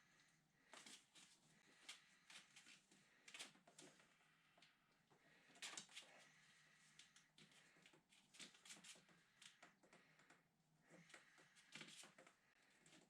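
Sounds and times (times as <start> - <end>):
faint handling clicks and rustles: 0.6 - 13.0.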